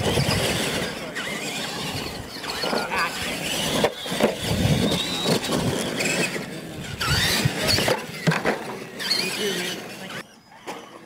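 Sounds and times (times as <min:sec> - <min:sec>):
tyres scrabbling on dirt: 0:00.0 - 0:10.2
rc truck motor whine: 0:00.0 - 0:11.0.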